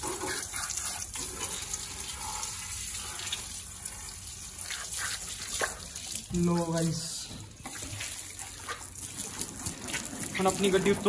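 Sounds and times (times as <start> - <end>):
hose water spraying on wheel: 0.0 - 6.9, 7.6 - 11.0
water splashing on tiled floor: 0.0 - 11.0.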